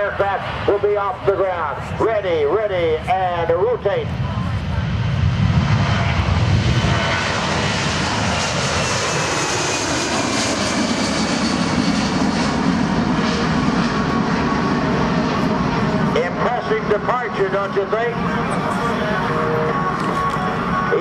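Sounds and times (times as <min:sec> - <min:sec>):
jet engines roaring at takeoff: 0:00.0 - 0:21.0.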